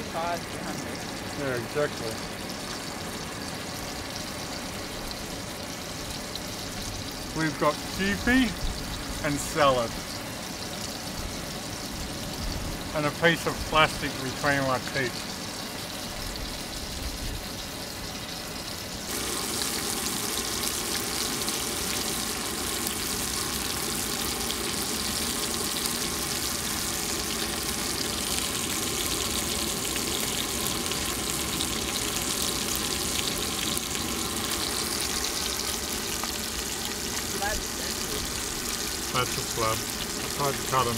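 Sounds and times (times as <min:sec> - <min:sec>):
fish sizzling in frying pan: 0:00.0 - 0:40.9.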